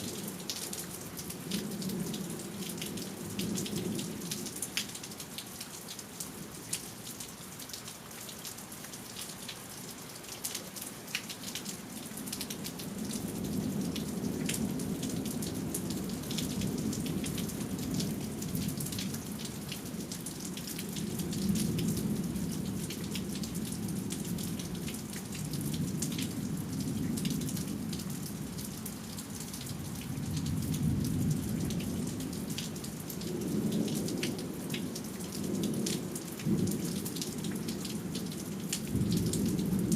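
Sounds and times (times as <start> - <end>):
steady rain: 0.0 - 39.9
raindrops ticking: 0.1 - 39.9.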